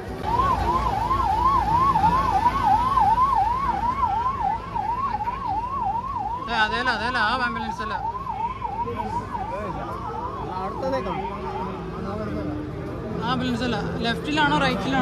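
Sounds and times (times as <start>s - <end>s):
vehicle siren wailing: 0.0s - 15.0s
wavering siren-like tone: 0.2s - 12.3s.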